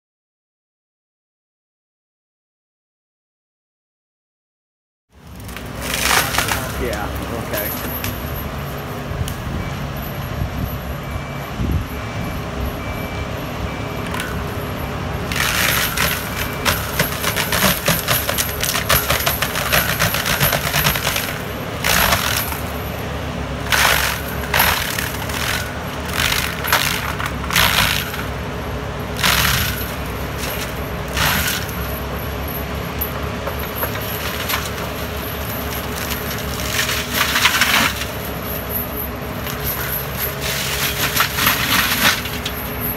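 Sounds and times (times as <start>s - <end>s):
mulcher grinding trees and brush: 5.1s - 42.9s
excavator diesel engine running: 5.2s - 42.9s.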